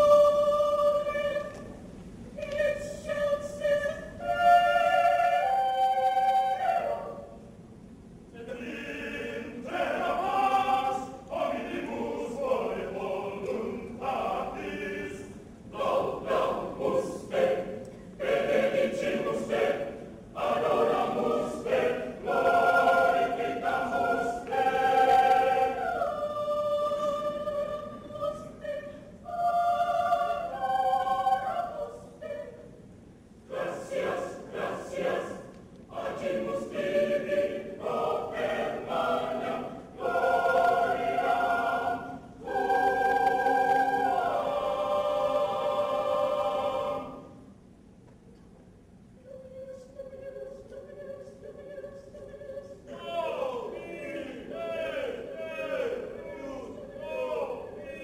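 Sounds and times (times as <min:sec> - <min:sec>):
mixed choir singing: 0:00.0 - 0:01.7, 0:02.4 - 0:07.3, 0:08.4 - 0:32.7, 0:33.4 - 0:47.5, 0:49.3 - 0:58.0.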